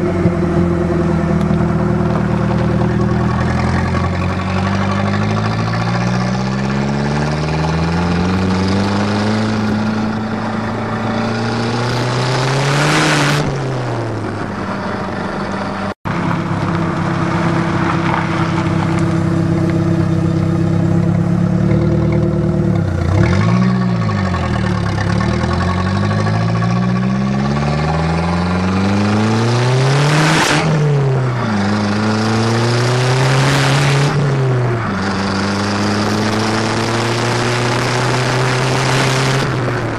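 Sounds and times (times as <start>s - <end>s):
car exhaust accelerating on highway: 0.0s - 39.9s.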